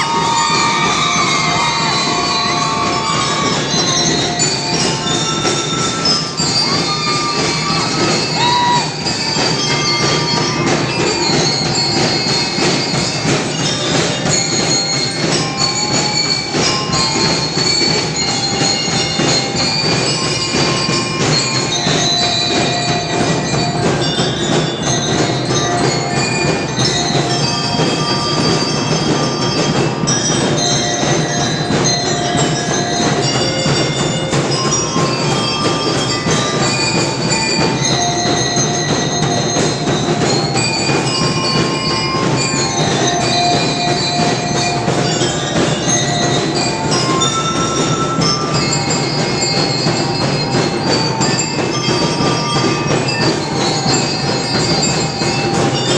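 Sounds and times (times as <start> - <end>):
bell lyre melody: 0.0 - 55.9
steady drum beat: 0.0 - 55.9.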